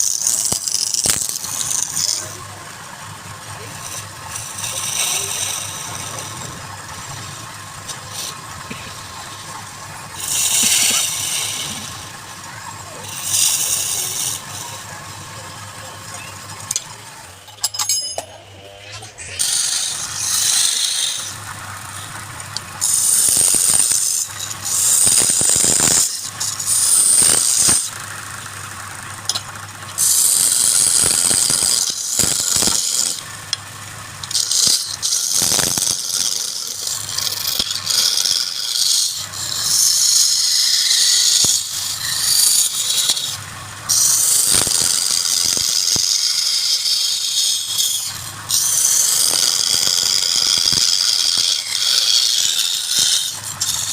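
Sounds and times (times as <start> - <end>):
turning tool scraping wood: 0.0 - 53.9
wood lathe humming: 0.0 - 53.9.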